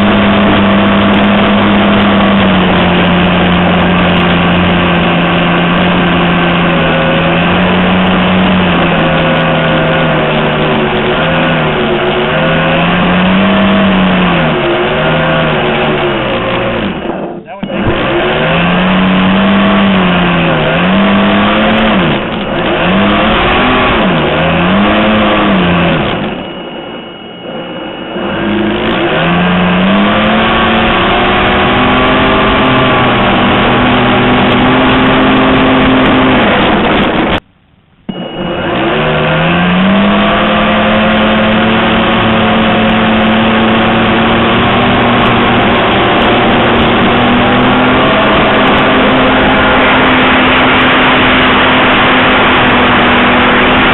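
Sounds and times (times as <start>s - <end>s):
electric motor and propeller drone: 0.0s - 37.4s, 38.1s - 53.9s.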